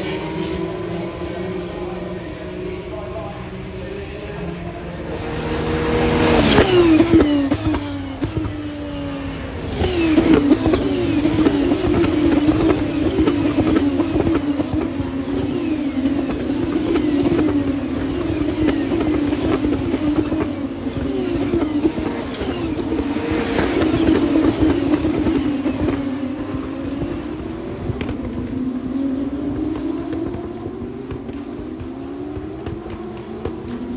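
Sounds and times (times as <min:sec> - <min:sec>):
racing cars passing at high revs: 0:00.0 - 0:33.9.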